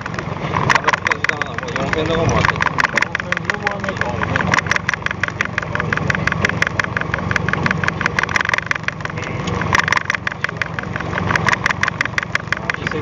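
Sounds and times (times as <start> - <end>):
boat engine idling: 0.0 - 13.0
fast even ticking clicks: 0.0 - 13.0.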